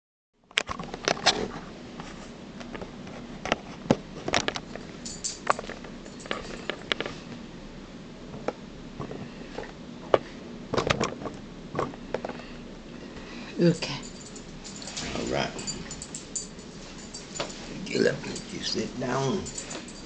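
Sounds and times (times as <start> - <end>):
faint steady hum: 0.5 - 20.0.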